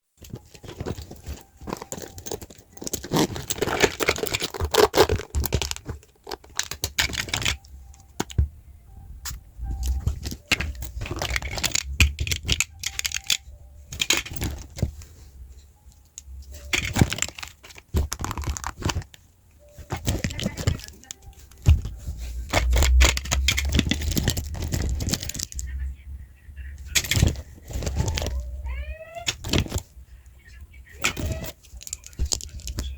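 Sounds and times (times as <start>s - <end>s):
rustling and crinkling: 0.0s - 32.9s.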